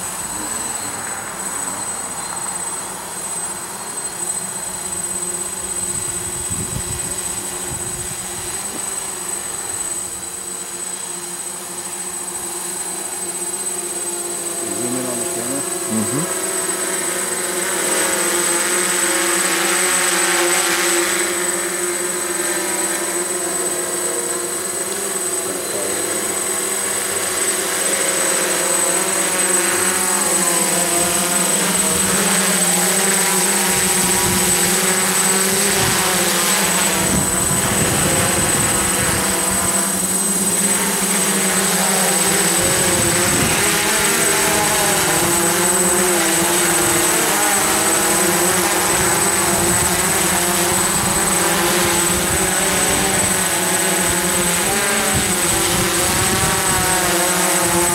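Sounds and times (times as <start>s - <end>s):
drone propellers buzzing: 0.0s - 57.9s
thin high whine: 0.0s - 57.9s.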